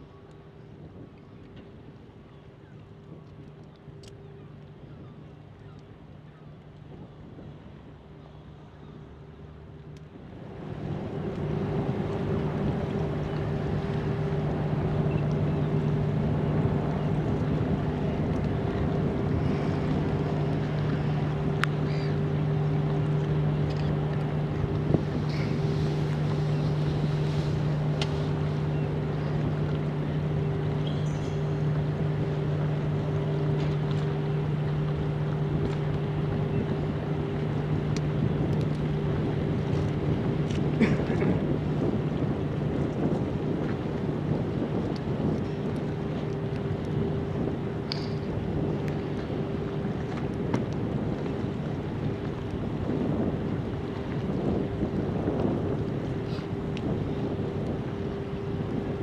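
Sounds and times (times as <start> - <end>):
constant two-pitch hum: 0.0 - 59.0
wind rumbling on microphone: 0.0 - 59.0
ship diesel engines droning: 7.2 - 59.0.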